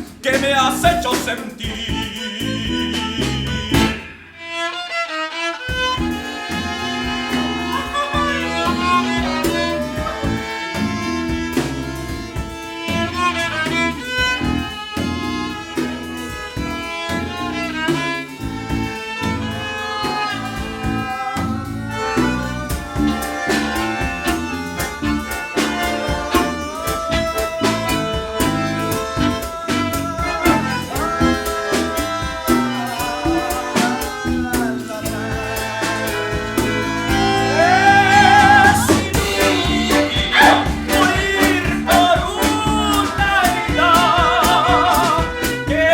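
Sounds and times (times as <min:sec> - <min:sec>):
bass: 0:00.0 - 0:04.4, 0:05.7 - 0:45.9
drums: 0:00.0 - 0:04.8, 0:05.6 - 0:45.9
guitar: 0:00.0 - 0:45.9
violin melody: 0:02.2 - 0:45.9.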